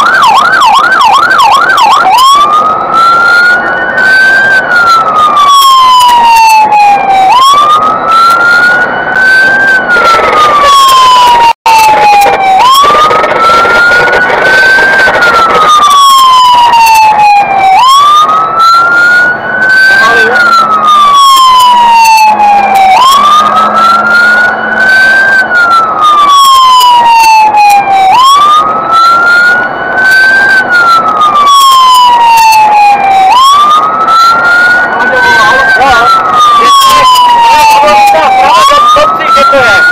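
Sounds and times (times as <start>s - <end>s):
fire engine siren wailing: 0.0s - 39.9s
road and engine noise: 0.0s - 39.9s.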